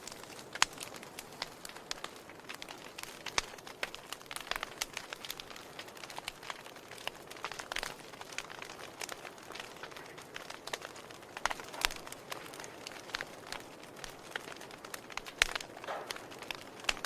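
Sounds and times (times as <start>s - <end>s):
soft fire hiss: 0.0s - 17.0s
wood fire crackling and popping: 0.0s - 17.0s.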